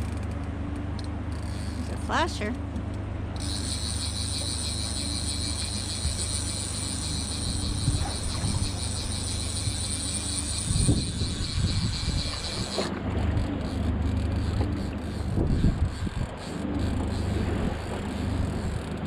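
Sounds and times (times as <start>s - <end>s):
fishing reel whirring: 0.0s - 2.5s, 3.3s - 19.0s
boat engine humming: 0.0s - 19.0s.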